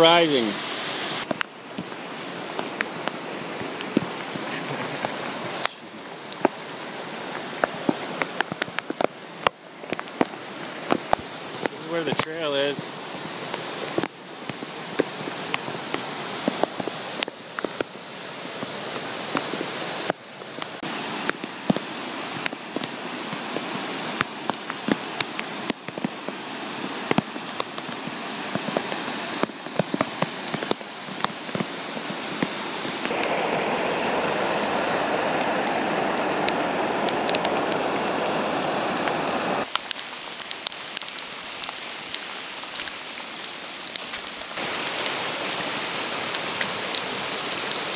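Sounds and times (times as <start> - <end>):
rushing flood water: 0.0 - 47.9
rain drops tapping: 1.2 - 33.4, 39.6 - 47.9.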